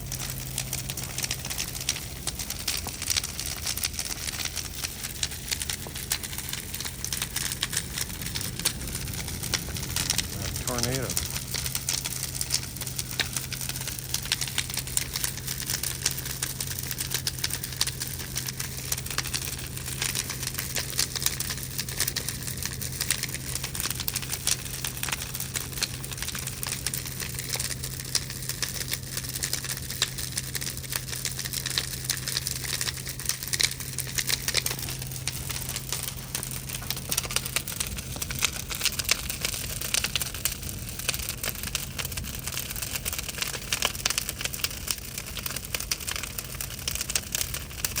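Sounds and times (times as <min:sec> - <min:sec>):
steady low hum: 0:00.0 - 0:47.8
bonfire crackling and popping: 0:00.0 - 0:48.0.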